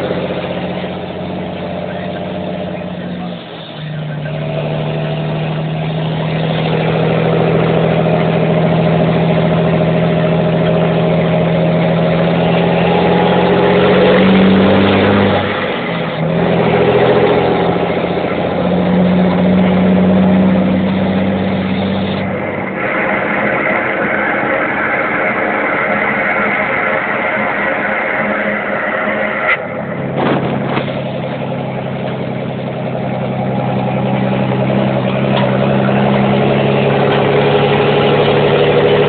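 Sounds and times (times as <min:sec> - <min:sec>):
rushing noise: 0:00.0 - 0:39.0
truck diesel engine exhaust: 0:00.0 - 0:39.0.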